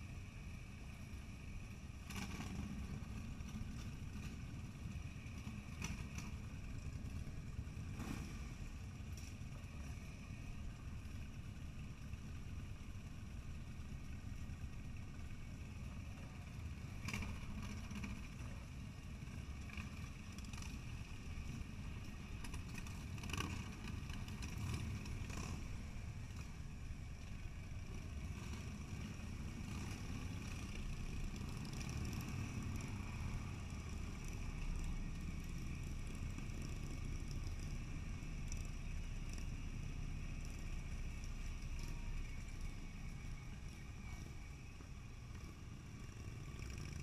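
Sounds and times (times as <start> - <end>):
motorcycle engines idling: 0.0 - 47.0.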